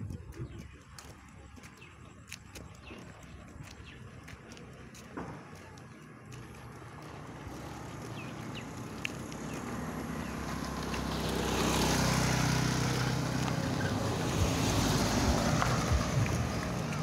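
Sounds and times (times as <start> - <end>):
vehicle engine running: 2.8 - 17.0.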